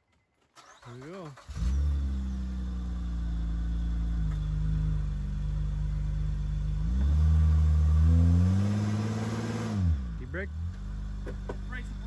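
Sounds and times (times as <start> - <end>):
car engine idling and revving: 0.6 - 12.0.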